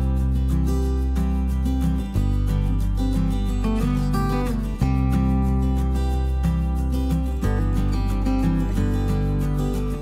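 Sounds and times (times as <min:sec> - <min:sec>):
bass line: 0:00.0 - 0:10.0
guitar: 0:00.0 - 0:10.0.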